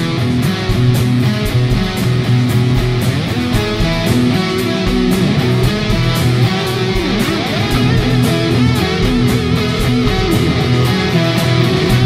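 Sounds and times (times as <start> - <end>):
guitar-led instrumental music: 0.0 - 12.0
sliding guitar notes: 0.0 - 12.0.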